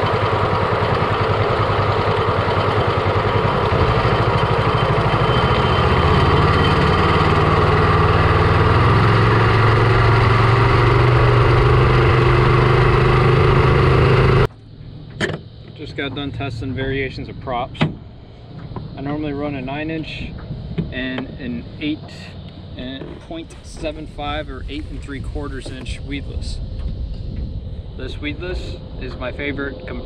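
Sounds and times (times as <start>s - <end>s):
mud motor engine running: 0.0s - 30.0s.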